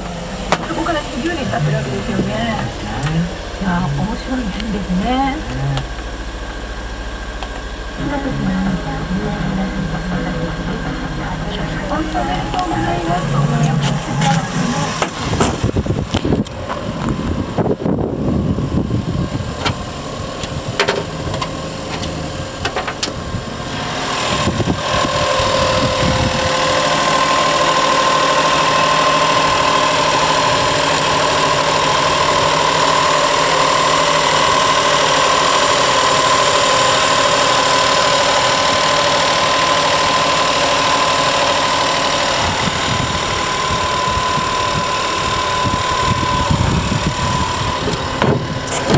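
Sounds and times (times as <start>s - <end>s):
engine idling: 0.0s - 48.9s
steady whine: 0.0s - 48.9s.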